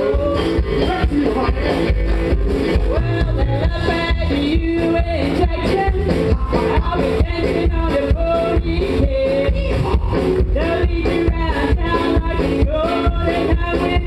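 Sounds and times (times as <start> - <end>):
country rock band playing: 0.0 - 14.0
drum beat: 0.0 - 14.0
electric guitar: 0.0 - 14.0
upright double bass: 0.0 - 14.0.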